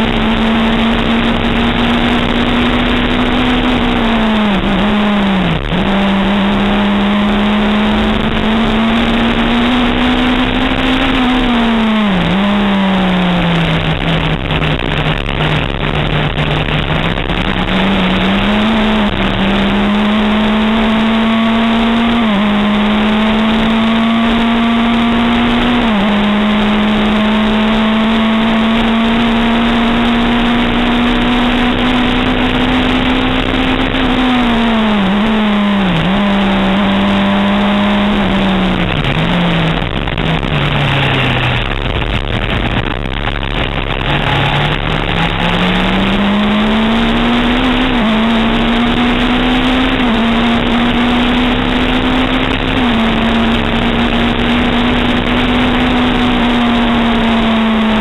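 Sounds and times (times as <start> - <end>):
racing car engine: 0.0 - 58.0
wind noise: 0.0 - 58.0.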